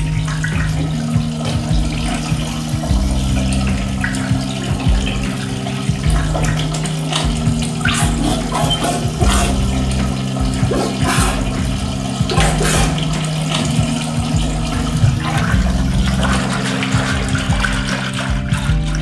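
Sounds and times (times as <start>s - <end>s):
steady low drone: 0.0s - 19.0s
water gurgling and rushing: 0.0s - 19.0s.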